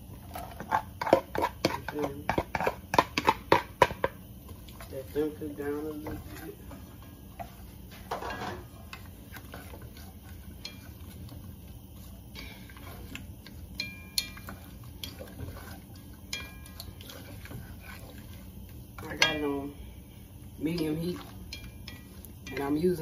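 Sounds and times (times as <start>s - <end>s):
spatula scraping vegetables in pot: 0.0s - 23.0s.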